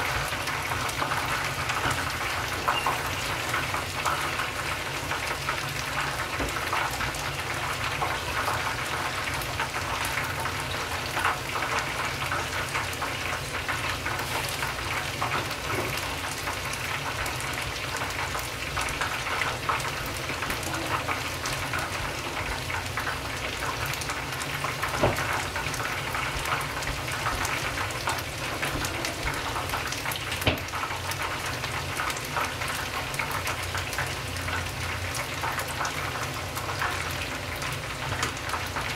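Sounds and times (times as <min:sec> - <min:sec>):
chicken deep-frying in oil: 0:00.0 - 0:38.9.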